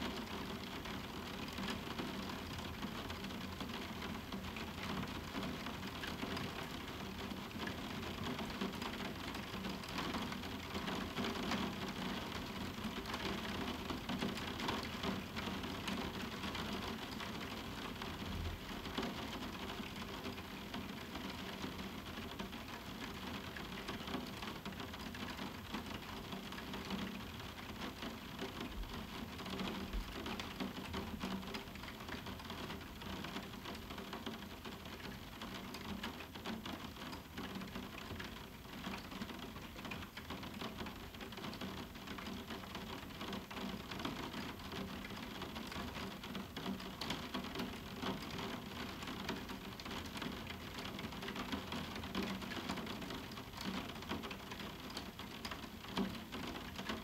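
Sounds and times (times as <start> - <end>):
rain pattering on a window: 0.0 - 57.0.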